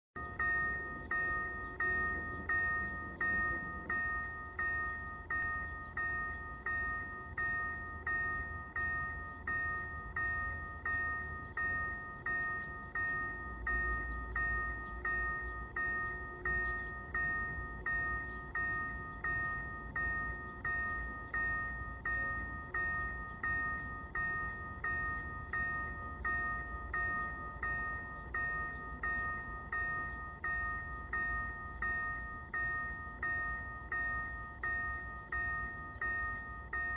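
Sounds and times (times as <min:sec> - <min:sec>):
railroad crossing bell ringing: 0:00.2 - 0:36.9.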